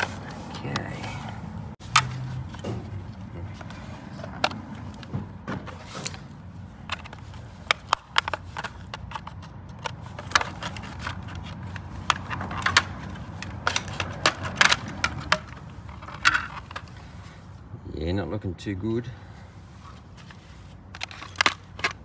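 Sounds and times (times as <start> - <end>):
hard plastic clicking and scraping: 0.0 - 17.2, 20.2 - 22.0.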